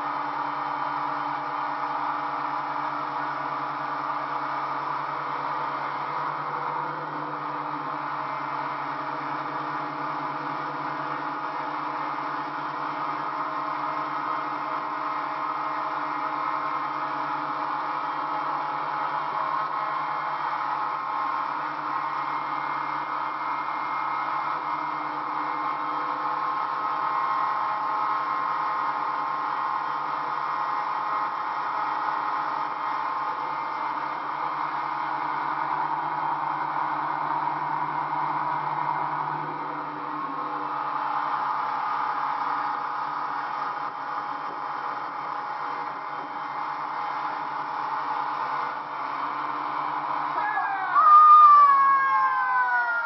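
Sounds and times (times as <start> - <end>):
motorboat engine drone: 0.0 - 53.0.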